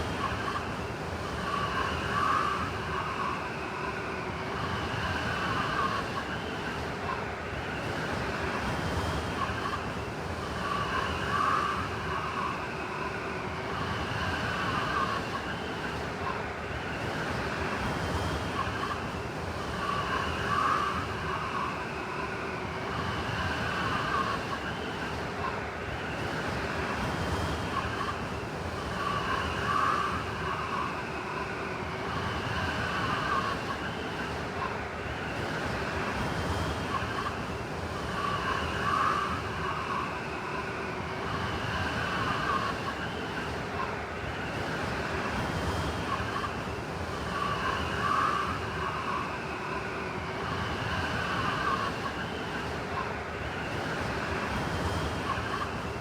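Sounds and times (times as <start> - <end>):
blizzard wind howling: 0.0 - 56.0.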